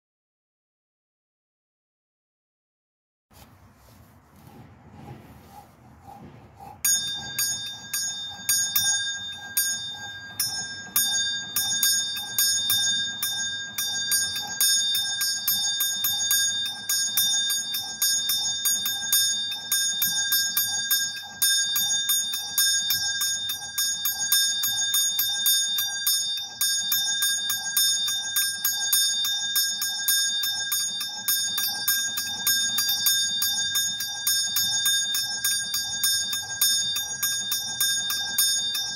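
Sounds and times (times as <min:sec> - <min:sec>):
small bell ringing fast: 0:06.8 - 0:38.9.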